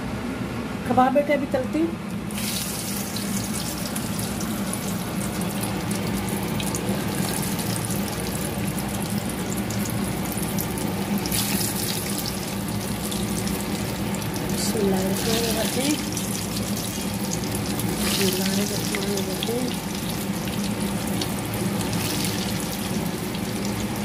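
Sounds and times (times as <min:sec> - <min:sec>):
steady low hum: 0:00.0 - 0:24.0
food sizzling in hot oil: 0:02.2 - 0:24.0.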